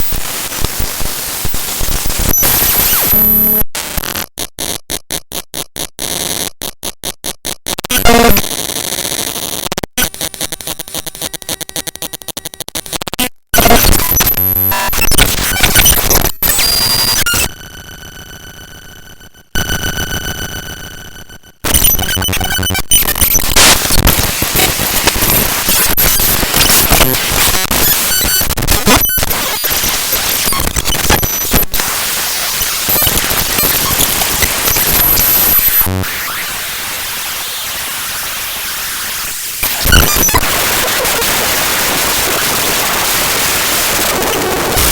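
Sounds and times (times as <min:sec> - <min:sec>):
harsh digital noise with clicks: 0:00.0 - 0:44.9.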